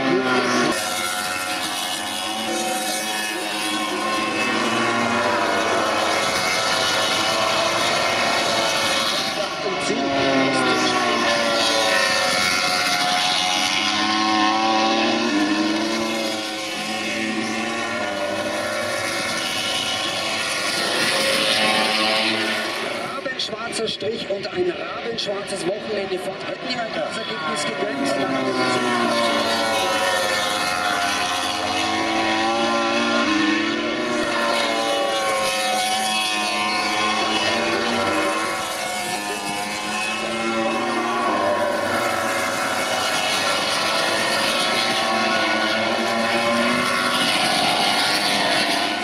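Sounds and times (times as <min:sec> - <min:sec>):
racing motorcycle engines: 0:00.0 - 0:49.0.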